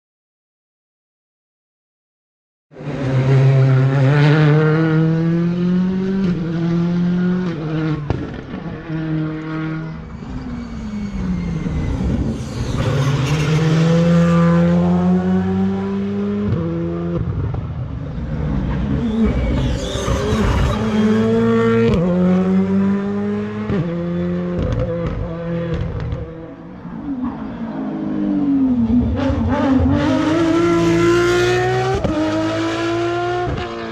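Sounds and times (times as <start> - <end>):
rally car engine accelerating: 2.8 - 33.9.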